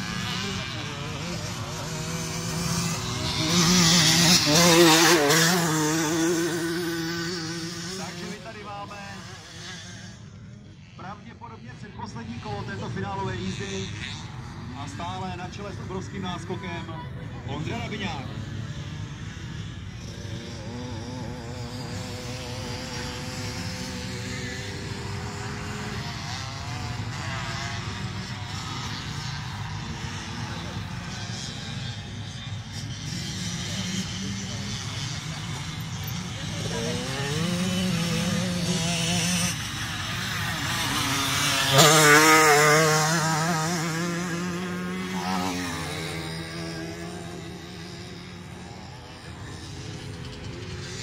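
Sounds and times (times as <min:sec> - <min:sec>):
distant motocross engines droning: 0:00.0 - 0:51.0.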